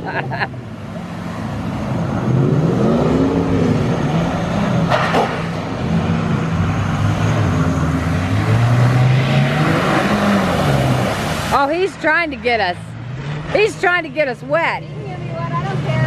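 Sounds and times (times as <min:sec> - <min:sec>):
vehicle engine revving: 0:01.0 - 0:16.0.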